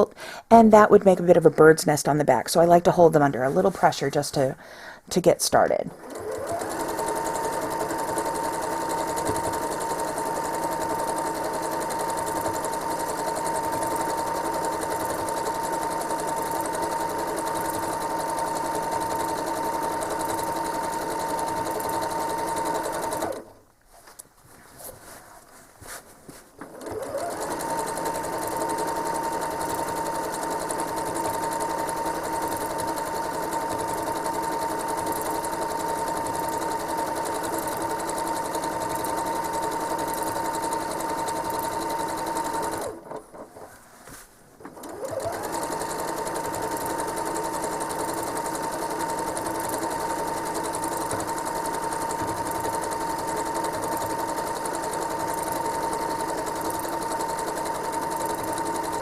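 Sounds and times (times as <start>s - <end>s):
sewing machine motor whine: 5.9s - 23.5s, 26.6s - 43.2s, 44.8s - 59.0s.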